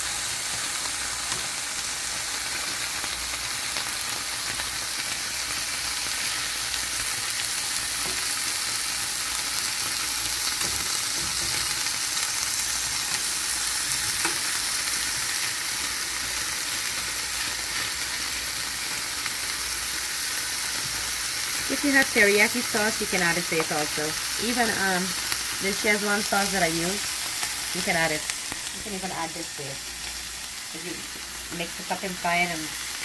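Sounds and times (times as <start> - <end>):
cheese sizzling in a pan: 0.0 - 33.0.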